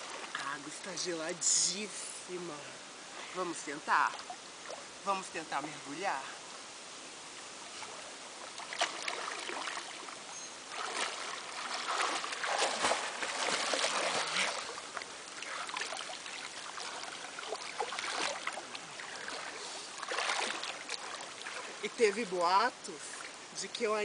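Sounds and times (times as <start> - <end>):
water splashing and churning: 0.0 - 1.0, 3.1 - 6.0, 7.4 - 24.0.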